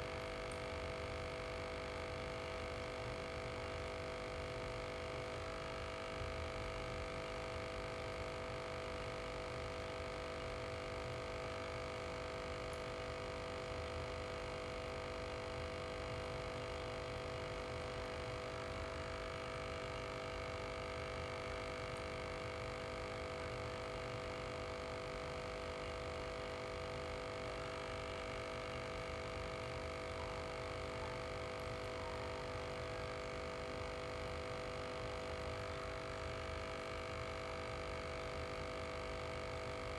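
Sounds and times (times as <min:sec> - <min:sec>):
aquarium air pump humming: 0:00.0 - 0:39.9.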